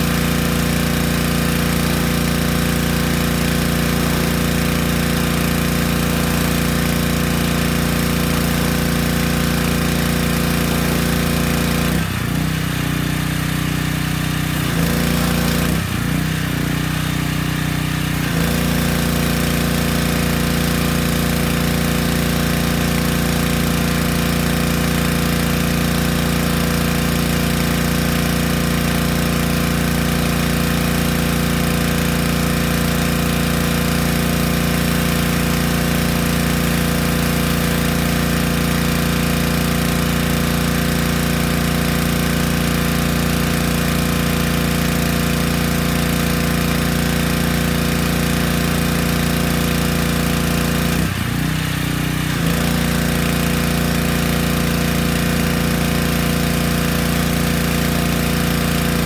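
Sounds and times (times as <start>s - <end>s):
pressure washer engine running: 0.0s - 59.0s.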